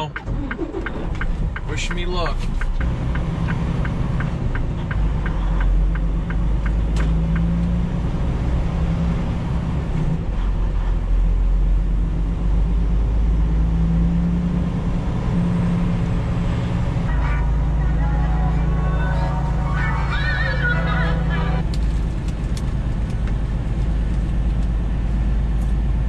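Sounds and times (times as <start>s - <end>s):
truck diesel engine drone: 0.0s - 26.0s.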